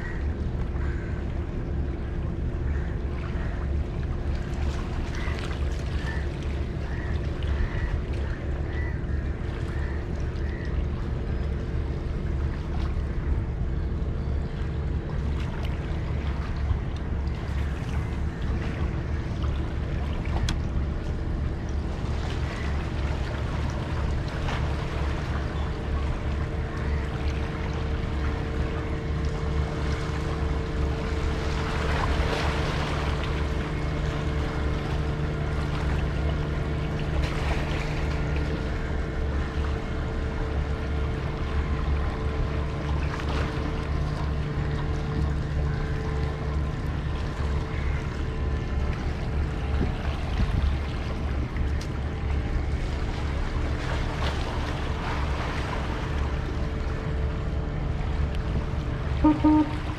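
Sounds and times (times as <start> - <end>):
low engine hum: 0.0 - 59.9.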